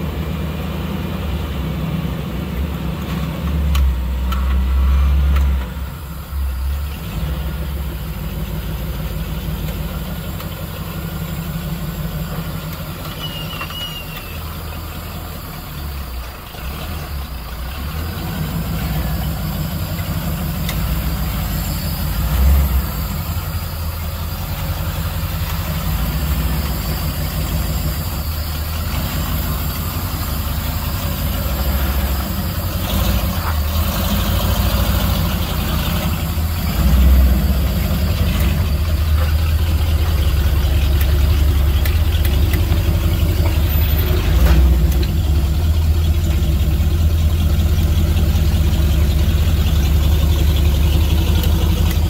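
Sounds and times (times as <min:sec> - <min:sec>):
engine running at low revs: 0:00.0 - 0:52.0.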